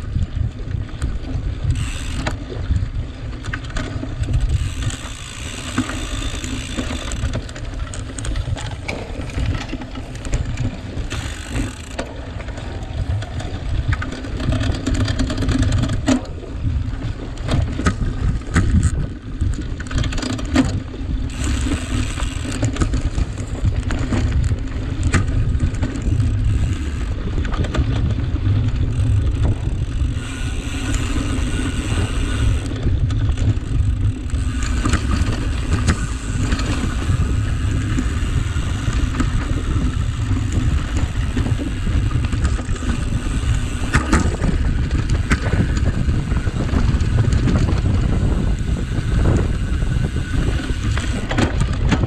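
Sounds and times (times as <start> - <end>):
bike knocking and rattling: 0.0 - 52.0
wind rumble on microphone: 0.0 - 52.0.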